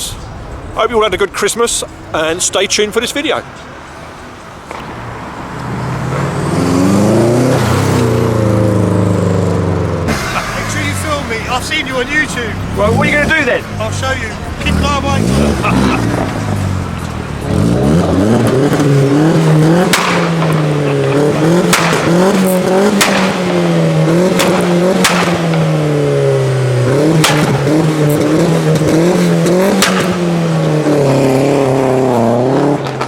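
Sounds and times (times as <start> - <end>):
car engine revving: 3.6 - 33.0
sharp exhaust cracks: 4.6 - 31.4.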